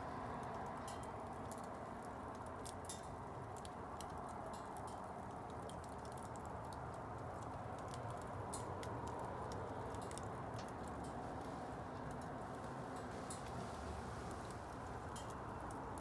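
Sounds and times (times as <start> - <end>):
bonfire crackling: 0.2 - 16.0.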